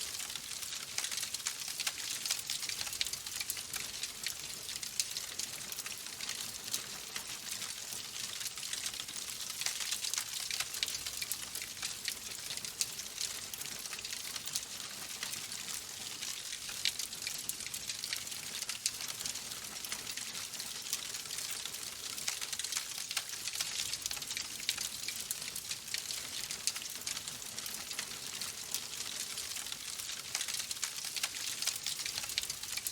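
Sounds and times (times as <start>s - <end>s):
wood fire crackling: 0.2s - 32.9s.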